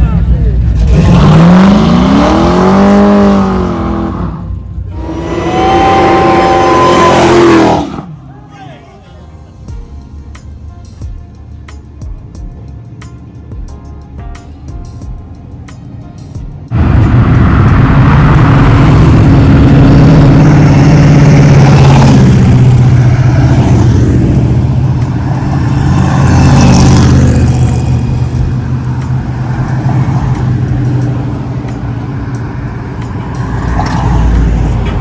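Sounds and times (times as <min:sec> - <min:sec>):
car engine deep drone: 0:00.0 - 0:08.3, 0:14.4 - 0:35.0.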